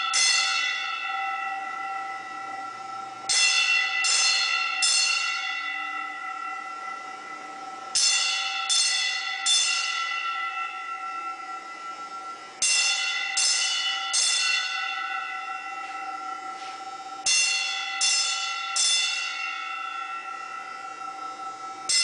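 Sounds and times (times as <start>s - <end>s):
fire alarm bell strokes ringing: 0.0s - 22.0s.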